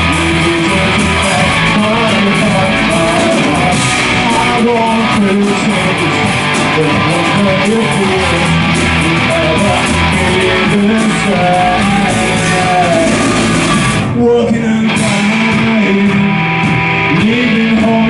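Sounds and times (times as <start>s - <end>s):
bass guitar: 0.0s - 18.0s
drums: 0.0s - 18.0s
melodic guitar line: 0.0s - 18.0s
strummed guitar: 0.0s - 18.0s.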